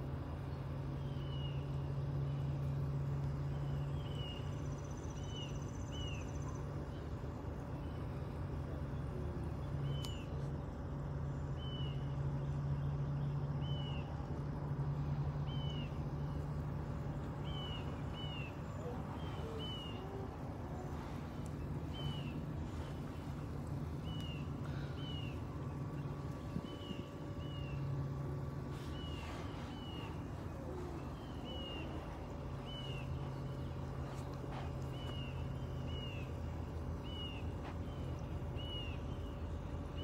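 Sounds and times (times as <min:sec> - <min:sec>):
low hum: 0:00.0 - 0:40.0
bird chirping: 0:00.4 - 0:10.6, 0:11.2 - 0:40.0.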